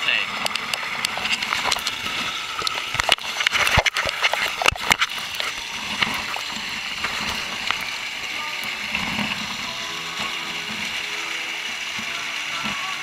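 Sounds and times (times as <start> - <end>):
water rushing down waterslide: 0.0 - 11.2.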